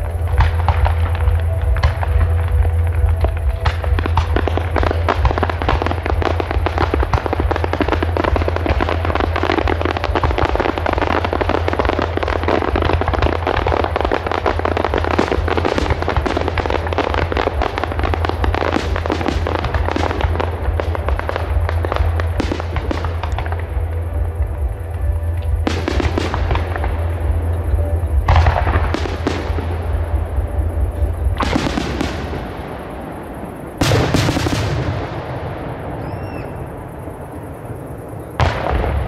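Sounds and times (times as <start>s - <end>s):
fireworks crackling and popping: 0.0s - 39.0s.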